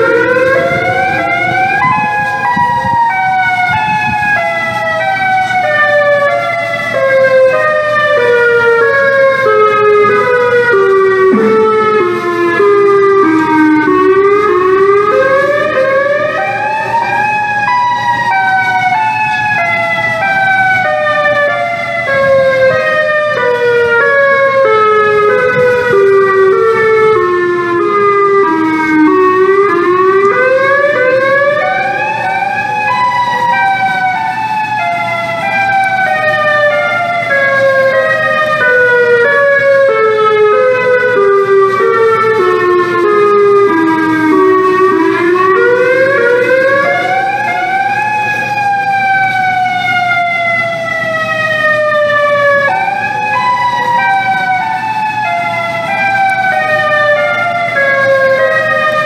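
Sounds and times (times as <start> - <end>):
tornado warning sirens: 0.0 - 59.0.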